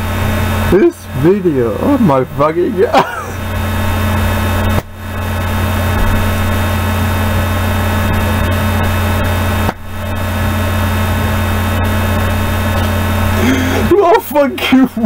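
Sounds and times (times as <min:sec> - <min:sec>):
low droning hum with hiss: 0:00.0 - 0:15.0.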